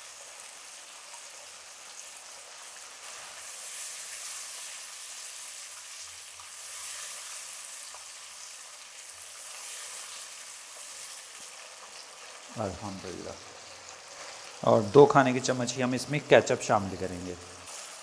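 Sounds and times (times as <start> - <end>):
sauce and onion sizzling in oil: 0.0 - 18.0.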